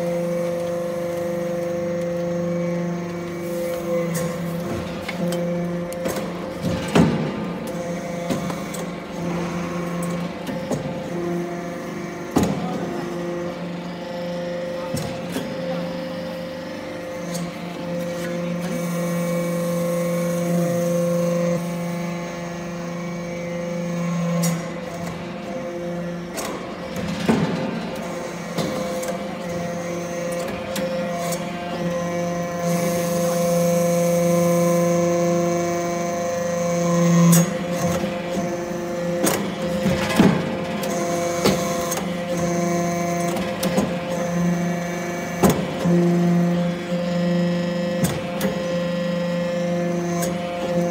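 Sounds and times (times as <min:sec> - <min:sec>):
hydraulic press motor hum: 0:00.0 - 0:50.9.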